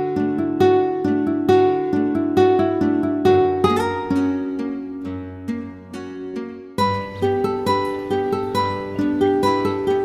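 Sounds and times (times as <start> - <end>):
plucked string instrumental music: 0.0 - 10.0.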